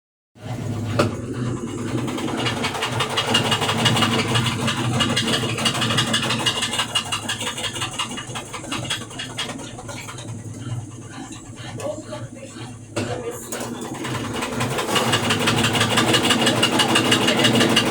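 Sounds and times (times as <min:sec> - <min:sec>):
washing machine drum hum: 0:00.4 - 0:17.9
washing machine spin rattle: 0:00.4 - 0:17.9.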